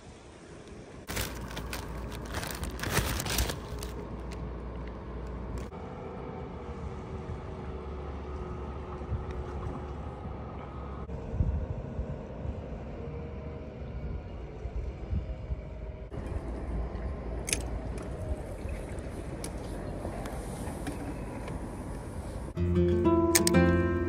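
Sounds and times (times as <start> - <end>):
vehicle engine rumbling: 0.9 - 24.0.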